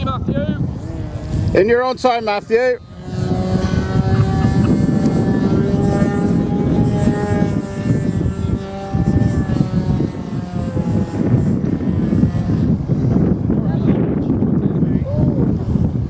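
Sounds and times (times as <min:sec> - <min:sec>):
model plane motor droning: 0:00.0 - 0:16.0.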